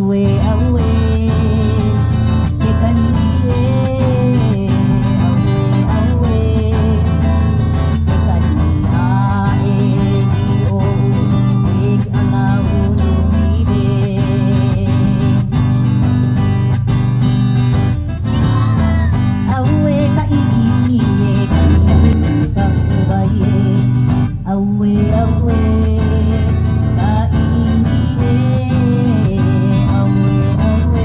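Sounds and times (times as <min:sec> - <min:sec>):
person singing: 0:00.0 - 0:16.7, 0:18.2 - 0:31.0
strummed acoustic guitars: 0:00.0 - 0:31.0.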